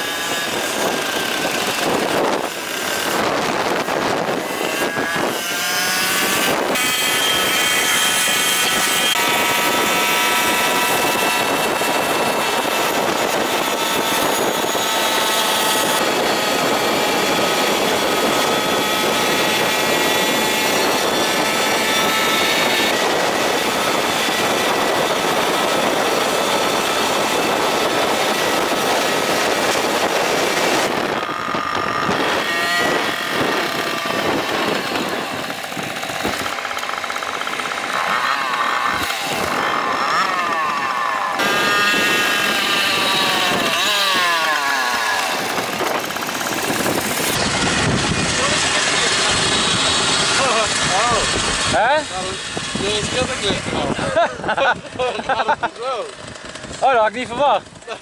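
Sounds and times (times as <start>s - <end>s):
moped engines running: 0.0s - 58.0s
wind noise: 0.0s - 58.0s.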